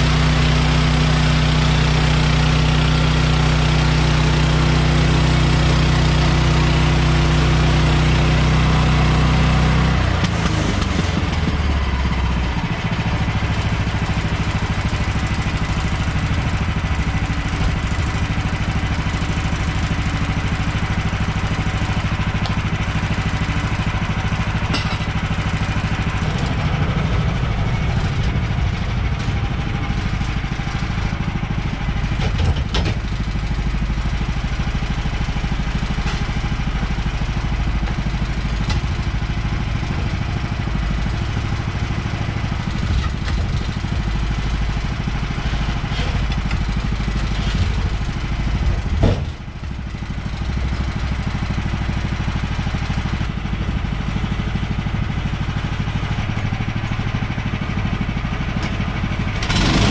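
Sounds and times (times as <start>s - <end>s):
small gas engine running: 0.0s - 59.9s.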